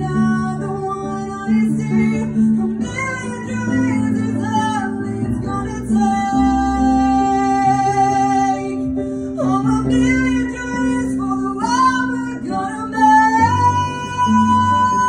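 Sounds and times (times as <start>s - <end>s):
woman singing into a microphone: 0.0s - 15.0s.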